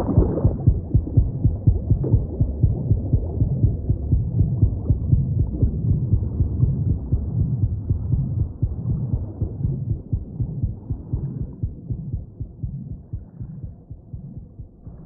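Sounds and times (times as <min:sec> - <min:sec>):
heavy low thumping and throbbing: 0:00.0 - 0:15.0.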